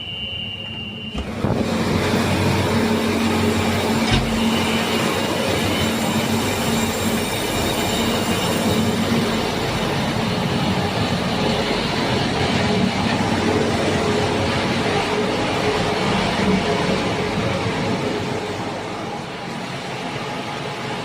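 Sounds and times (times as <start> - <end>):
train wheels rumbling on rails: 0.6 - 21.0.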